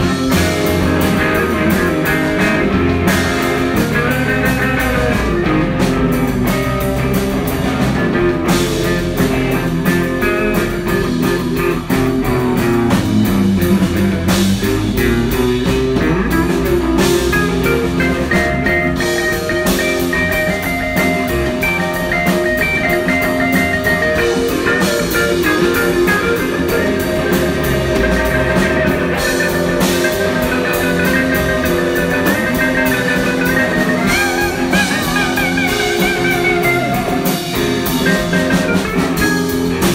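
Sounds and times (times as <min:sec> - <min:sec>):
rock music with guitar and drums: 0:00.0 - 0:39.9.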